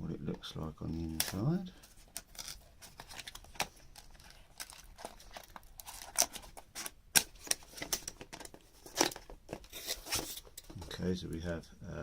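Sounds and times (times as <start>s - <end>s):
toy packaging clicks and rustles: 1.0s - 10.7s.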